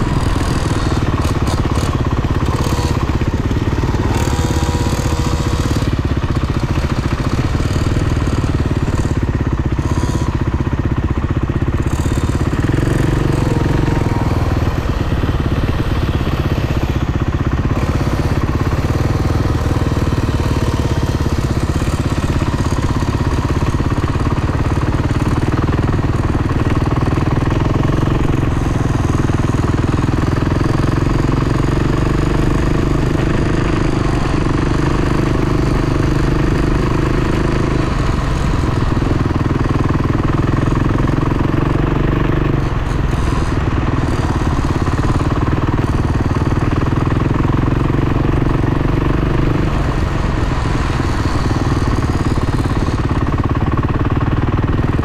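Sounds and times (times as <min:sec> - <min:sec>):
dirt bike engines running: 0:00.0 - 0:55.0.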